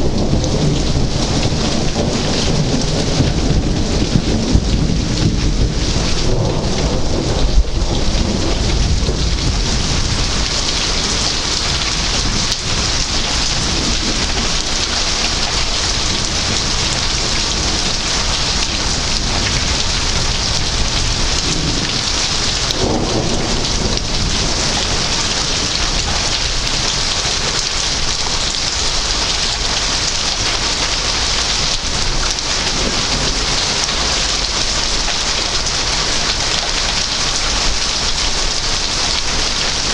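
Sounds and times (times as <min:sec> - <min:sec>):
rain pouring: 0:00.0 - 0:39.9
thunder rumbling: 0:00.0 - 0:39.9.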